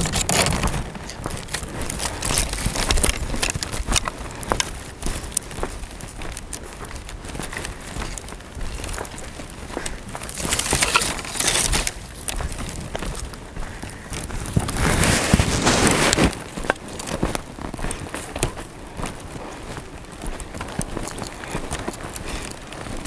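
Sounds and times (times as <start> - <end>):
footsteps crunching through dry grass: 0.0 - 23.0
twigs crackling: 0.0 - 23.0.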